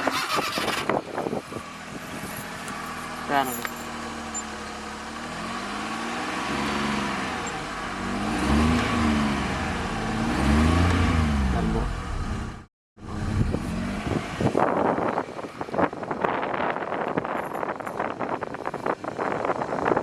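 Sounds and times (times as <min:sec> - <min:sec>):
small car engine revving: 0:00.0 - 0:16.4.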